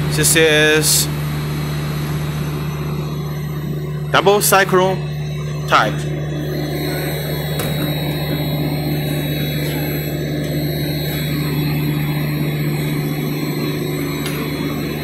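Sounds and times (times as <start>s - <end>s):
industrial machinery humming: 0.0s - 15.0s.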